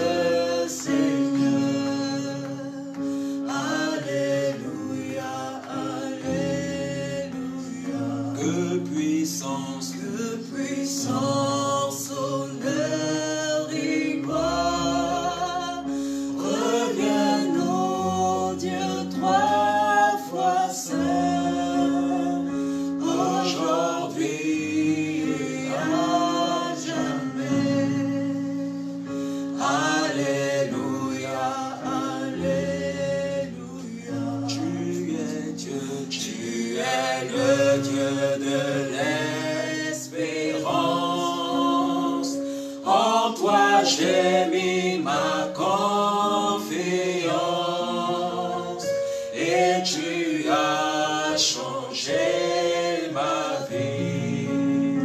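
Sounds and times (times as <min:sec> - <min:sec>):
group singing gospel song: 0:00.0 - 0:55.0.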